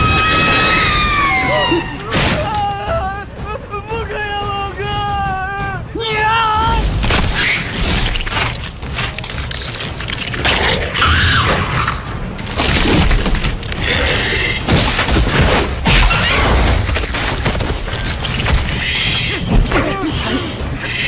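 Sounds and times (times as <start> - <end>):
continuous low rumble: 0.0 - 21.0.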